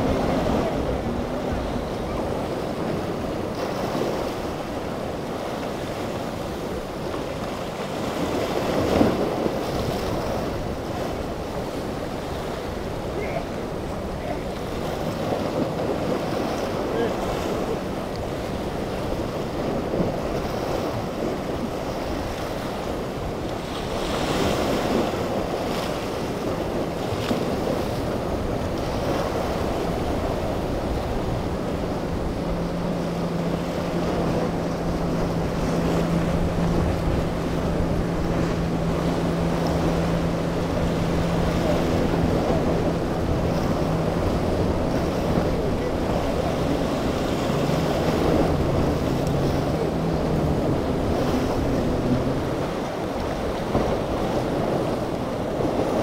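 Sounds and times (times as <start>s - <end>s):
boat engine drone: 0.0s - 56.0s
boat hull splashing over waves: 0.0s - 56.0s
wind buffeting microphone: 0.0s - 56.0s.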